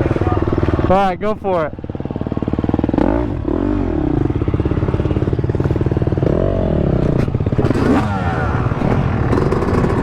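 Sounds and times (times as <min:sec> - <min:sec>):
dirt bike engine revving: 0:01.7 - 0:10.0.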